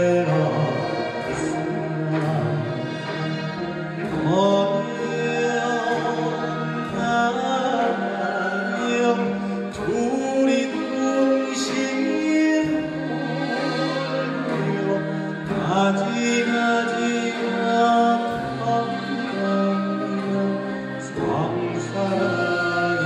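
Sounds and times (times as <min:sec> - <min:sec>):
traditional orchestra playing: 0:00.0 - 0:23.0.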